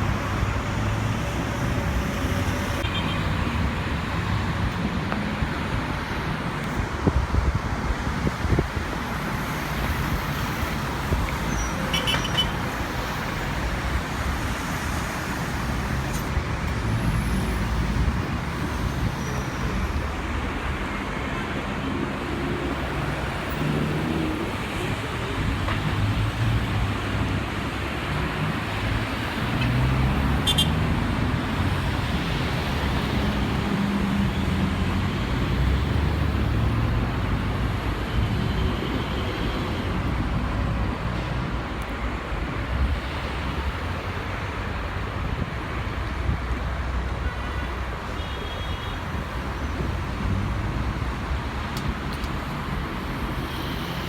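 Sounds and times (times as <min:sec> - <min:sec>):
engines rumbling and roaring: 0:00.0 - 0:48.2, 0:49.0 - 0:54.0.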